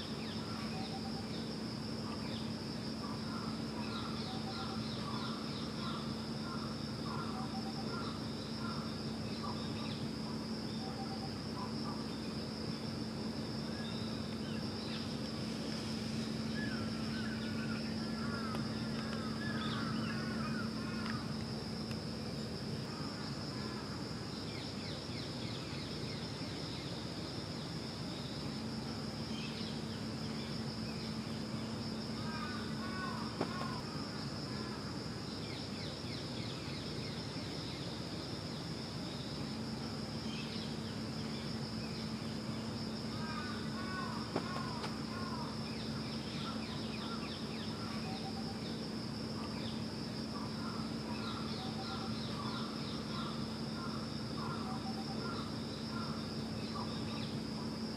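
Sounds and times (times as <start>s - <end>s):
high insect drone: 0.0s - 57.9s
low steady hum: 0.0s - 57.9s.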